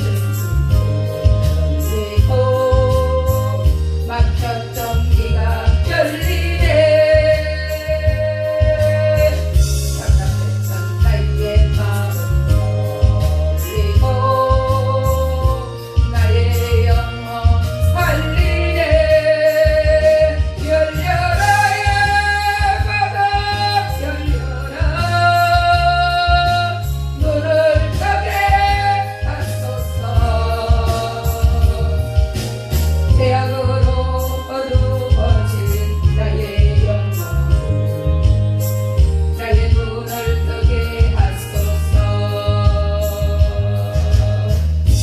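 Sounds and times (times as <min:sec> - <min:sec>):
gospel backing track with bass: 0:00.0 - 0:45.0.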